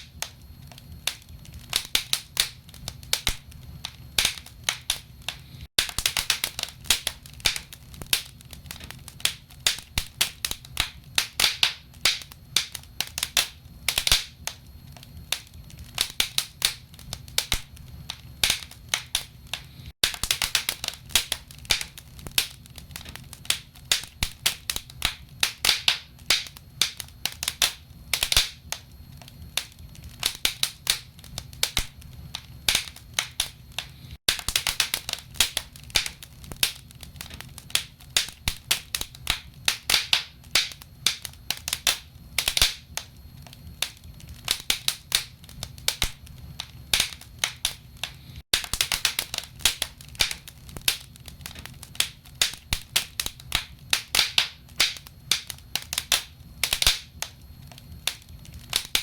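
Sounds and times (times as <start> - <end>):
logs crackling and popping: 0.0 - 59.0
low fire rumble: 0.0 - 59.0.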